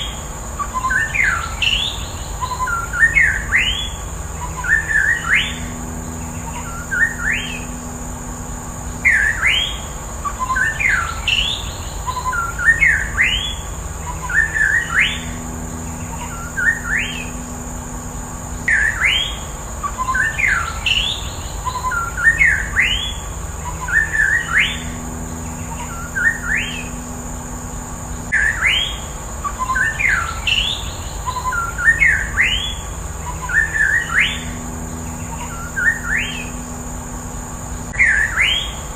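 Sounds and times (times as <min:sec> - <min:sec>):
bird singing whistled notes: 0:00.0 - 0:38.9
steady high-pitched drone: 0:00.0 - 0:38.9.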